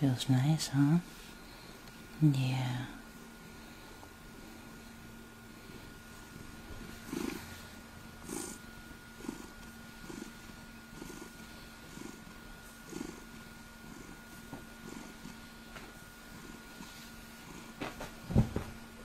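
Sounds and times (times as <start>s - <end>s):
cat purring: 2.9s - 18.2s.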